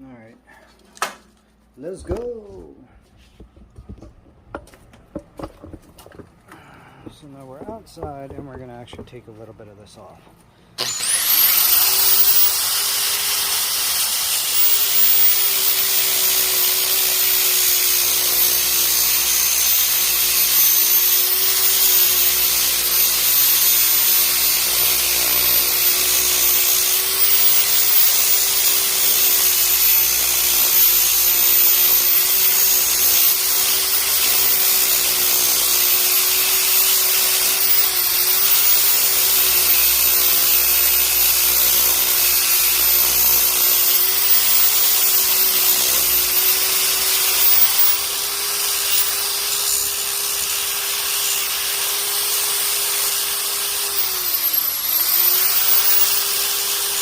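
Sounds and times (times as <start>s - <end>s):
electric sander on wood: 10.8s - 57.0s.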